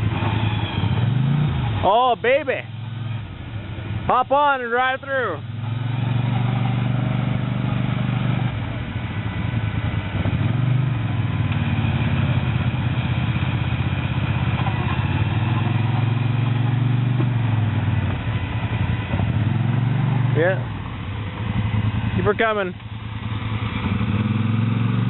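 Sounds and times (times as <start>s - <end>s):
atv engine under load: 0.0s - 25.0s.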